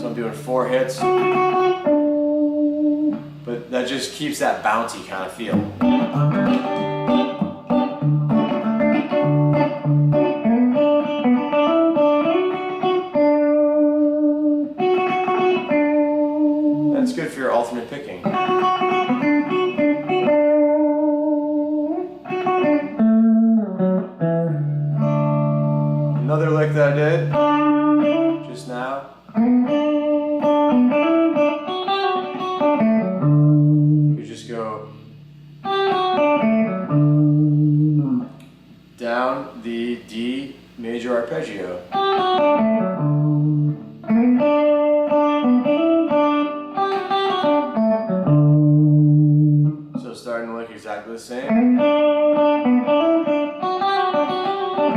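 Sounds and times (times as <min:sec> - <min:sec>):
electric guitar country lick: 0:00.0 - 0:54.9.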